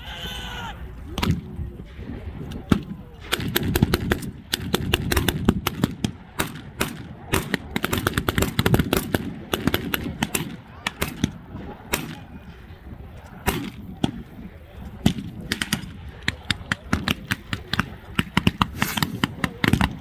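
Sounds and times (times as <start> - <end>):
blank gunshots and automatic bursts: 1.0 - 20.0.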